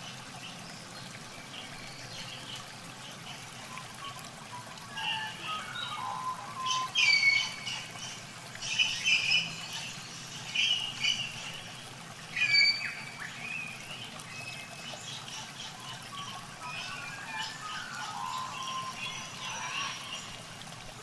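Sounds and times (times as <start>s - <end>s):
birds calling: 1.5s - 20.4s.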